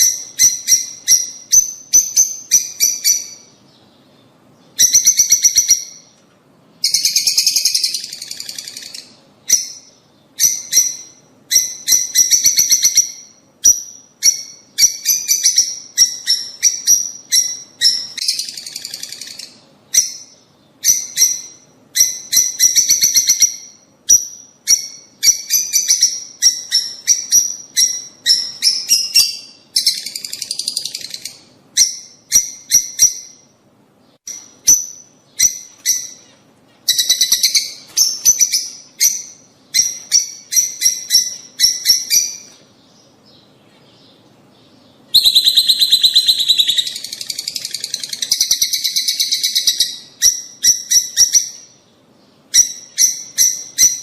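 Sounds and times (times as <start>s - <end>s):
lovebirds shrill chirping: 0.0s - 6.2s, 6.8s - 33.5s, 34.2s - 51.8s, 52.4s - 54.0s.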